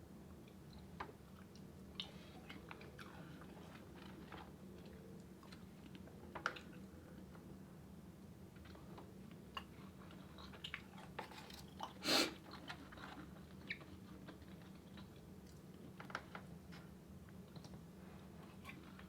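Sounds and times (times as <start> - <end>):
soft chewing: 0.3 - 19.0.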